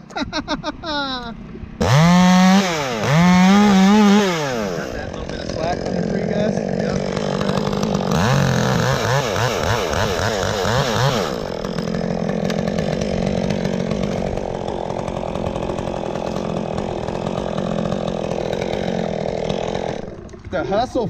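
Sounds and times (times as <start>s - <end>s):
chainsaw engine running: 1.8s - 21.0s.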